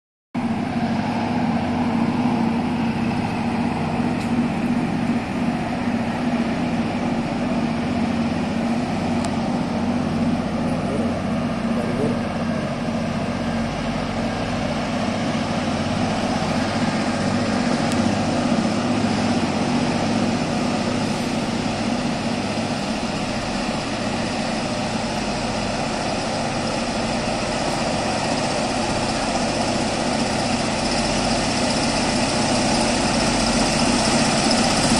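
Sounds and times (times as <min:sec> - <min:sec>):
locomotive diesel engines droning: 0:00.4 - 0:34.9.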